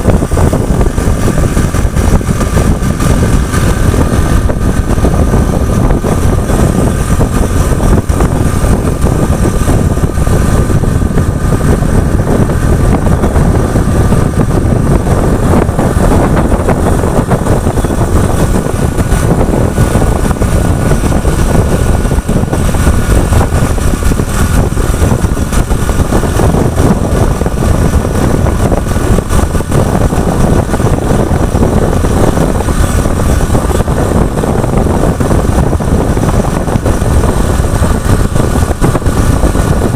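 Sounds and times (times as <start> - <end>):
engine running low rumble: 0.0 - 39.9.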